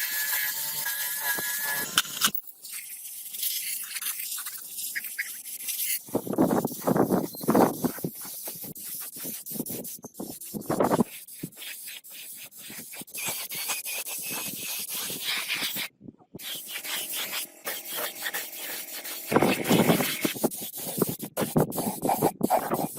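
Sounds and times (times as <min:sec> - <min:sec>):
hand scraping a surface: 0:02.7 - 0:22.9.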